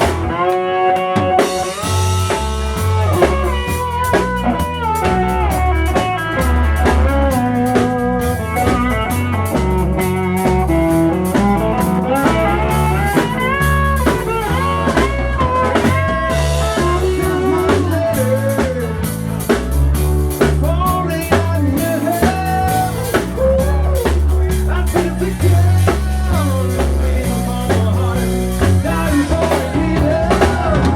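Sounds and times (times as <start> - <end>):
blues-rock band playing: 0.0 - 30.9
guitar lead with bent notes: 0.0 - 30.9.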